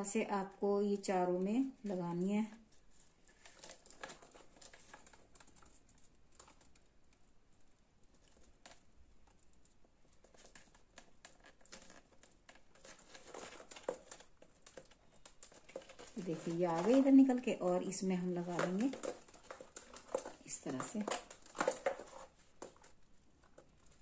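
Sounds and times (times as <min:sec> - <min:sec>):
handling clicks and rustles: 0:02.6 - 0:24.0.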